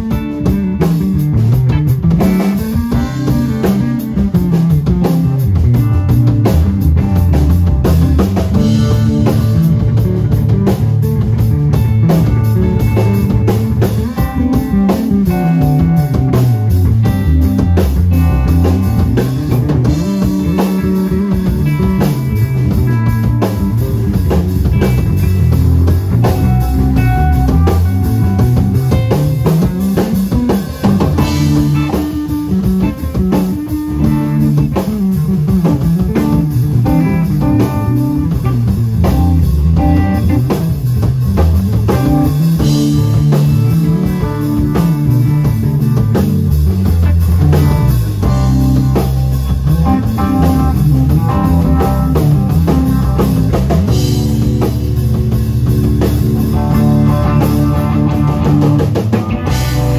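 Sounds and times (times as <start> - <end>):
drum kit: 0.0 - 59.9
electric bass line: 0.0 - 59.9
electric guitar: 0.0 - 59.9.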